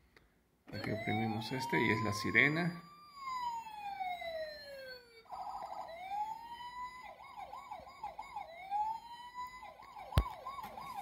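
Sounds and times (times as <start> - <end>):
toy electronic siren wailing: 0.7 - 11.0.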